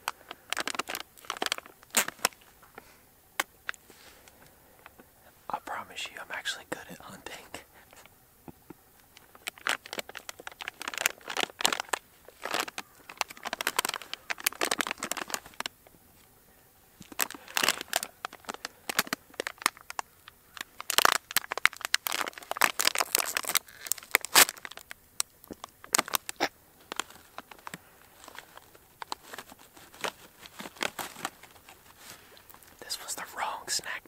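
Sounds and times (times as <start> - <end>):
plastic chip bag crinkling: 0.0 - 2.6, 5.6 - 8.1, 9.0 - 15.8, 17.0 - 34.0.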